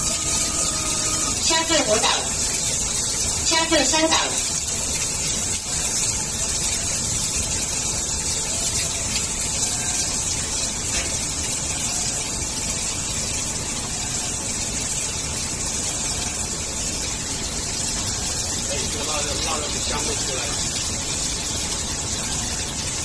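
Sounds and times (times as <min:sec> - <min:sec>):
cooking machine running: 0:00.0 - 0:23.0
oil hissing while frying: 0:00.0 - 0:23.0.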